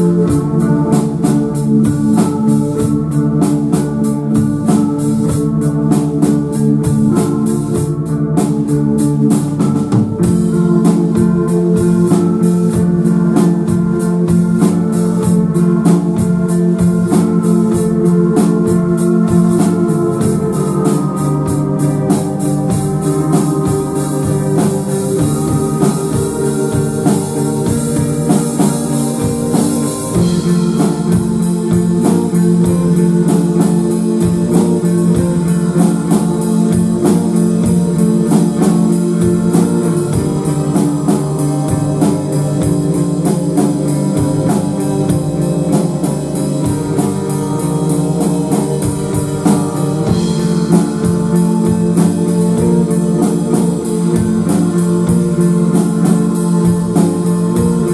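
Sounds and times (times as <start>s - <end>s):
drum kit beat: 0.0s - 57.9s
electric guitar: 0.0s - 57.9s.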